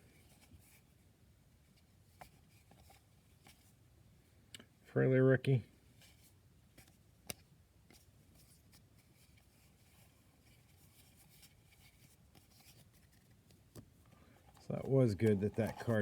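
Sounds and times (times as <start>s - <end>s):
cards rustling and scraping: 0.0s - 1.0s, 1.6s - 3.8s, 5.8s - 16.0s.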